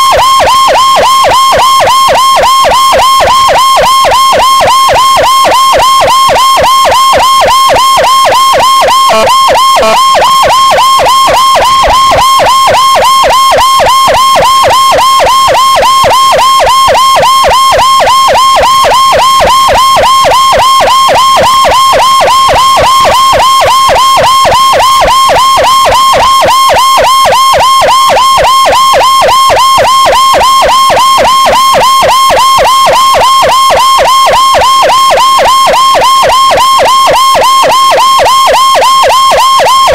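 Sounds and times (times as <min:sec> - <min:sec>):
siren fast yelp: 0:00.0 - 0:39.9.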